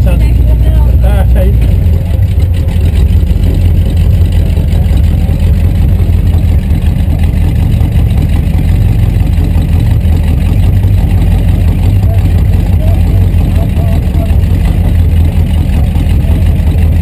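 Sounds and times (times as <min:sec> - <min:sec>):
truck engine running at low revs: 0:00.0 - 0:17.0.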